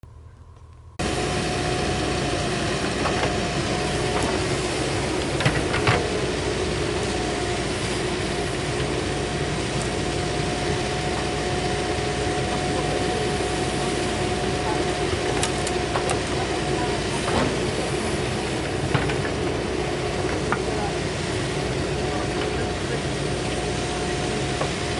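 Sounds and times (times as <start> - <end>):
diesel engine droning: 0.0 - 24.9.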